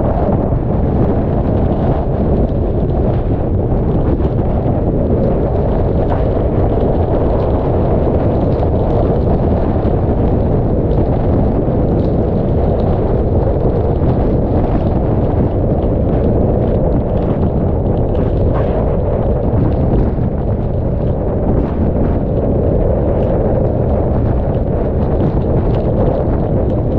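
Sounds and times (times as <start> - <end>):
wind buffeting microphone: 0.0 - 26.9
rain ticking on camera: 0.1 - 26.9.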